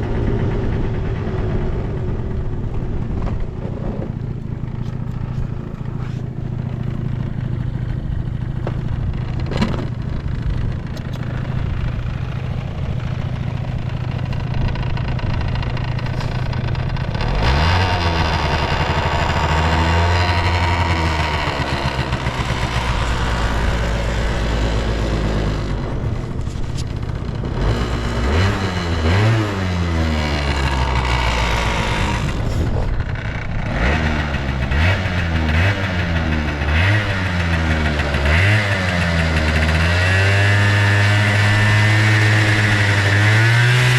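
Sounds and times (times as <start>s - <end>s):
scooter engine idling and revving: 0.0s - 43.9s.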